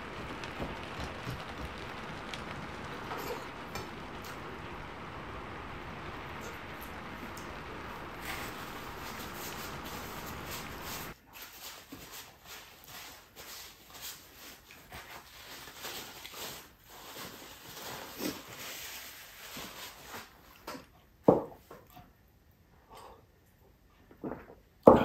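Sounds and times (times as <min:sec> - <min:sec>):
steady hiss: 0:00.0 - 0:20.5.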